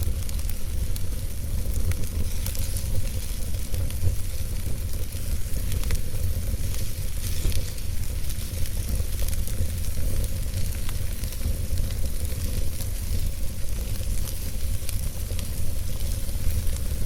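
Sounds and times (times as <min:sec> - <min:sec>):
fire rumble and hiss: 0:00.0 - 0:17.0
wood fire crackling and popping: 0:00.0 - 0:17.0.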